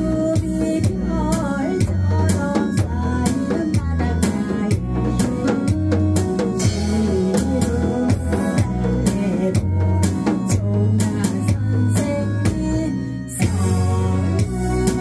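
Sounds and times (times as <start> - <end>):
trot music with bass beat: 0.0 - 15.0.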